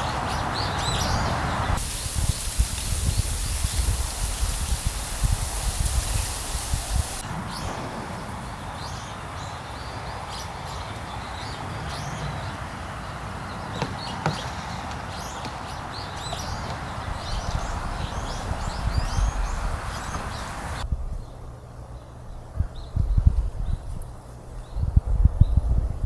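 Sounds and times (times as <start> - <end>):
small birds chirping: 0.0 - 21.4
outdoor background rush: 0.0 - 26.0.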